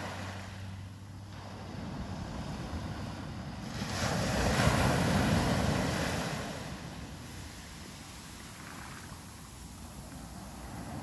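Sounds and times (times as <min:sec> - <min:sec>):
small waves washing up beach: 0:00.0 - 0:11.0.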